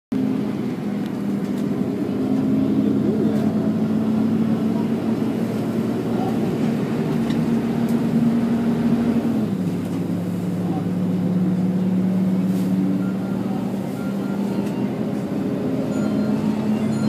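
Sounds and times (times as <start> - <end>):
bus engine drone: 0.1 - 17.0.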